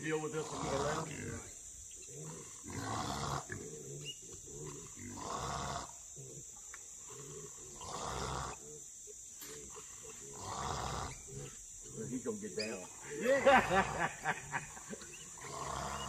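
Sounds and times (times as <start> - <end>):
loud raspy hog snort: 0.0 - 16.0
wild hogs grunting: 0.0 - 16.0.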